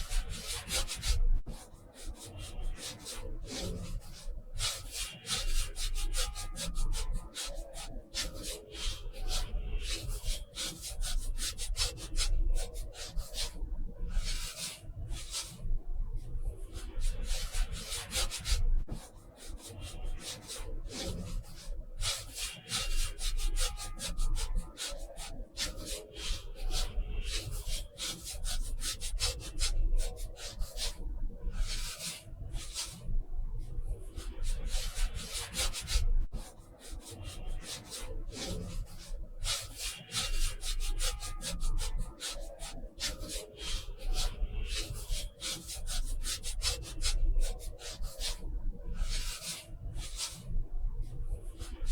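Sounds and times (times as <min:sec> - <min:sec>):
paintbrush strokes on paper: 0:00.0 - 0:15.6, 0:16.6 - 0:51.9.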